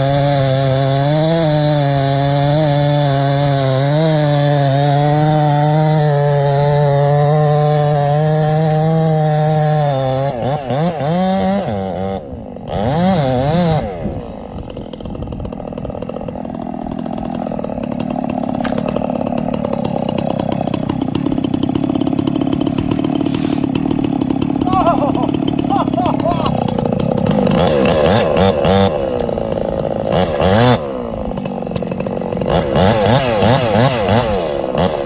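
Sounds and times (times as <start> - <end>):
chainsaw revving: 0.0 - 35.0.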